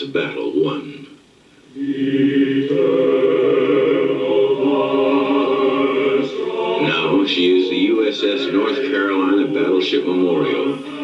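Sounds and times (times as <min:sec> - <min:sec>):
choir singing held chords: 0:01.7 - 0:11.0.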